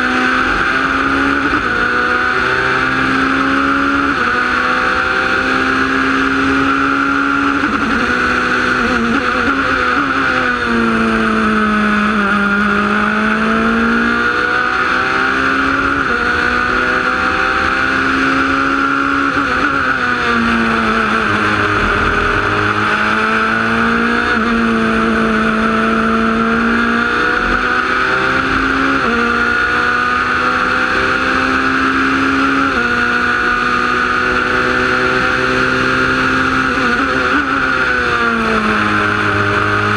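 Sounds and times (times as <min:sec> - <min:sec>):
racing car engine: 0:00.0 - 0:39.9.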